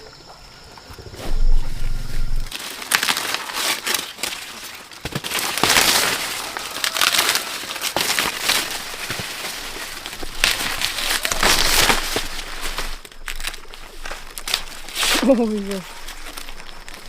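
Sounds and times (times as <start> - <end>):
dry corn leaves rustling: 1.2 - 17.0
corn snapping: 2.5 - 17.0.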